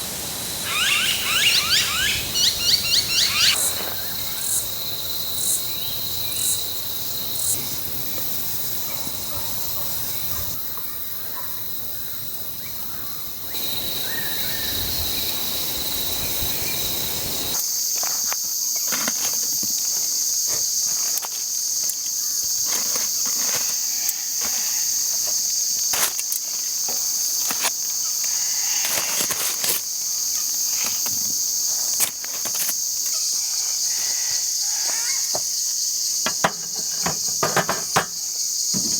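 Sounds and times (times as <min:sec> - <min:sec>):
higher insect chorus: 0:00.0 - 0:38.9
insects chirping: 0:00.0 - 0:38.9.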